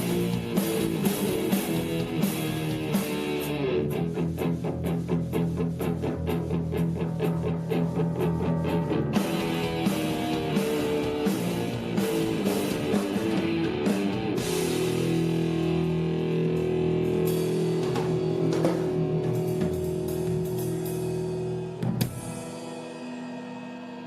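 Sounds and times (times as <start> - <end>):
rock band with electric guitar: 0.0 - 24.0.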